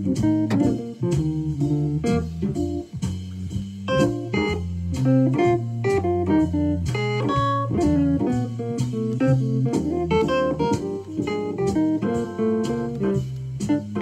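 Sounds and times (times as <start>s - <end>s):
electronic wind instrument jazz solo: 0.0s - 14.0s
organ trio backing track: 0.0s - 14.0s.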